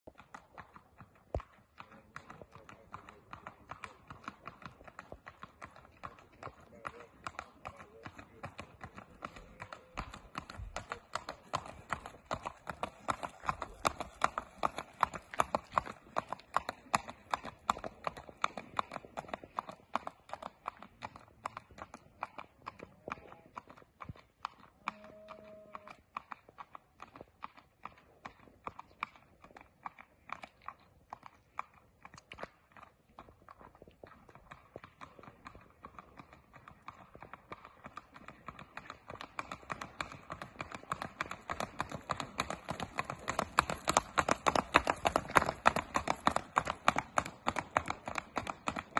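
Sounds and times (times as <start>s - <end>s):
horse hooves on asphalt: 0.0s - 48.9s.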